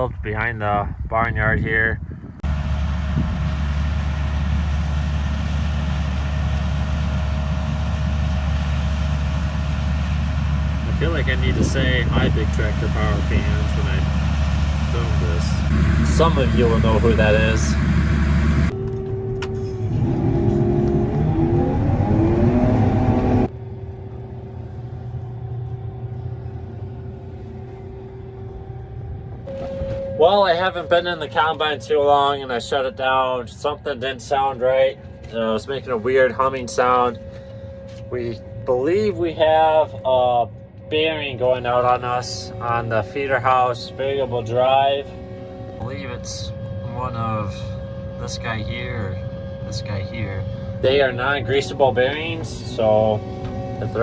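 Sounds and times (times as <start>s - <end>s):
thin steady whine: 2.4s - 20.5s, 21.7s - 54.0s
diesel engine drone: 2.4s - 54.0s.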